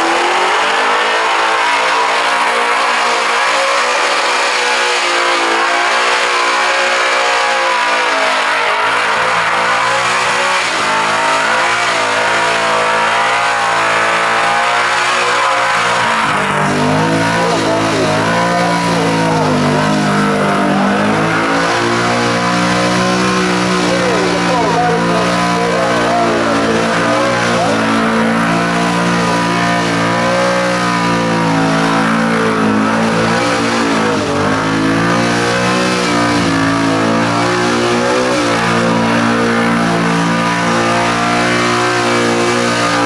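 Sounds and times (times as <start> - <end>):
car engine revving high: 0.0 - 43.0.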